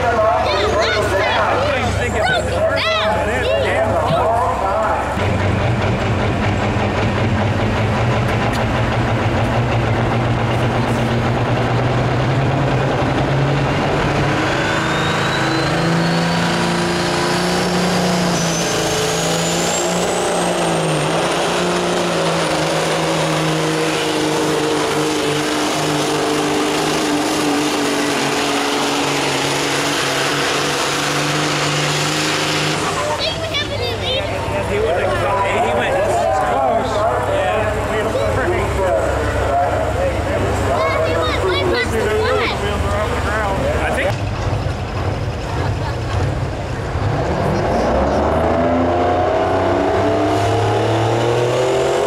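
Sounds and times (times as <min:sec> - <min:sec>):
diesel truck engine droning: 0:00.0 - 0:52.0.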